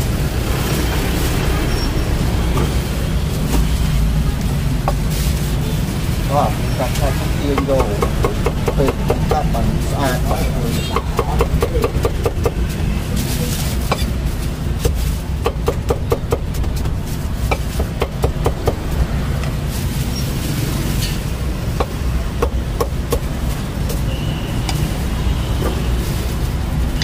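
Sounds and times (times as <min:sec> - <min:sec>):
low street traffic rumble: 0:00.0 - 0:27.0.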